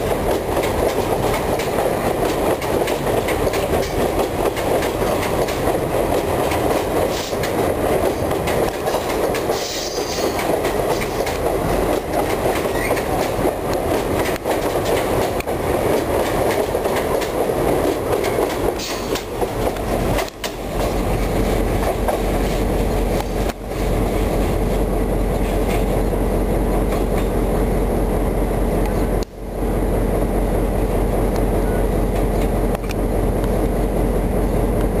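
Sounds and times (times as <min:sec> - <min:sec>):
locomotive engine rumble: 0:00.0 - 0:35.0
train wheels rolling on rail: 0:00.0 - 0:35.0.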